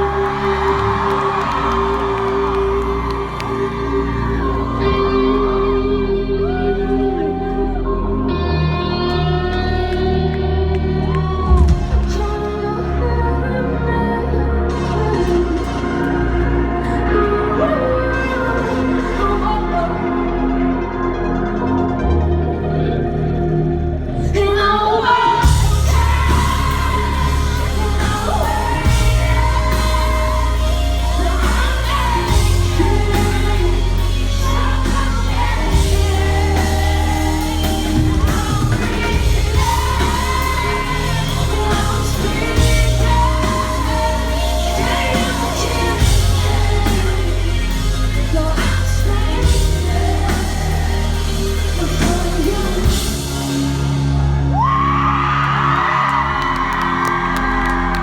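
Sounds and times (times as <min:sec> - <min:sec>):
woman singing lead vocal: 0:00.0 - 0:22.4, 0:24.0 - 0:58.0
heavy pulsing bass: 0:00.0 - 0:58.0
live electropop rock band: 0:00.0 - 0:58.0.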